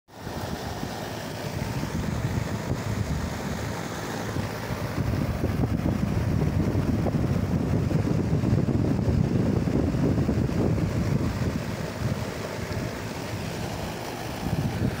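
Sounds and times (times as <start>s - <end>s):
wind buffeting microphone: 1.5s - 15.0s.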